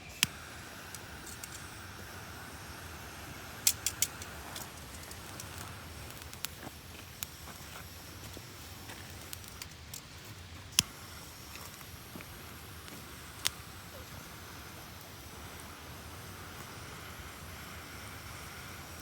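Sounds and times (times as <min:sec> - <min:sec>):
campfire crackling: 0:00.0 - 0:19.0
fire popping: 0:00.0 - 0:19.0.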